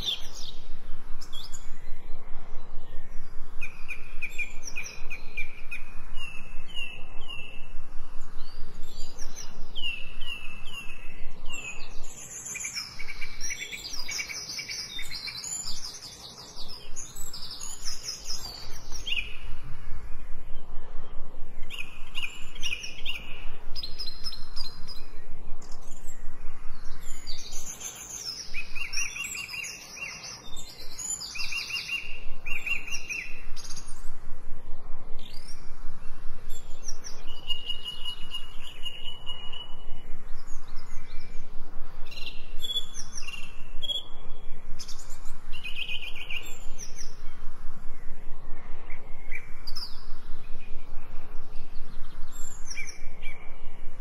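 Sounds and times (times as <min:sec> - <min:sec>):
faint background hiss: 0:00.0 - 0:54.0
songbirds singing and chirping: 0:00.0 - 0:54.0.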